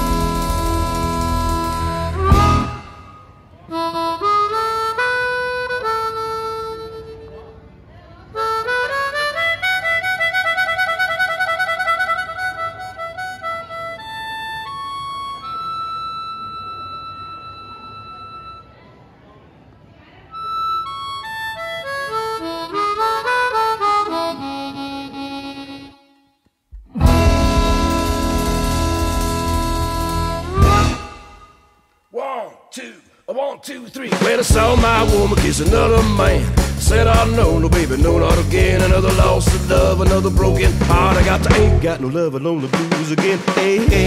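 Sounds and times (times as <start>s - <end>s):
blues harmonica playing: 0.0s - 7.5s, 8.3s - 18.5s, 20.3s - 31.6s, 34.4s - 42.0s.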